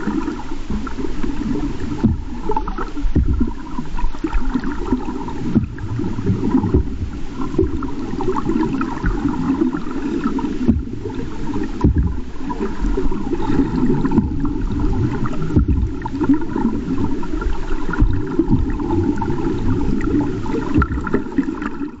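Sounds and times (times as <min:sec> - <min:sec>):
muffled underwater water noise: 0:00.0 - 0:22.0.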